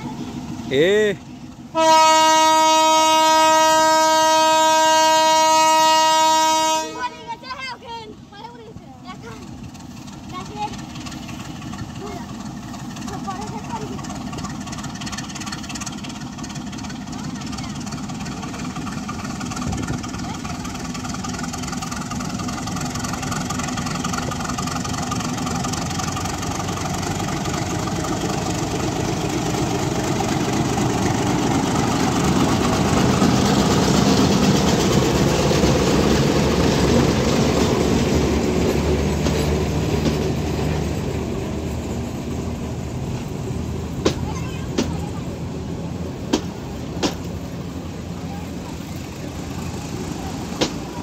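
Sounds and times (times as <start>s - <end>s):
diesel locomotive engine working hard: 0.0s - 51.0s
train coaches rolling by: 0.0s - 51.0s.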